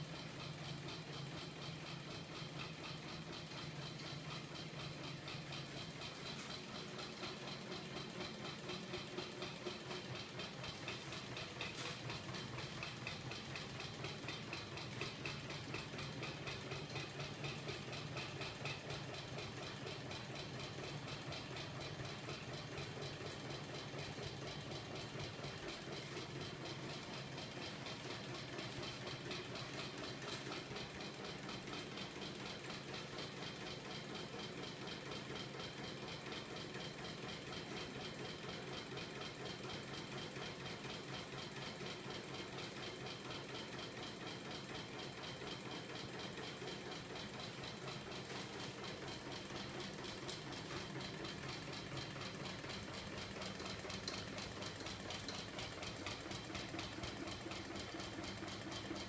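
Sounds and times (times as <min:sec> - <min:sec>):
fast mechanical clatter: 0:00.0 - 0:59.0.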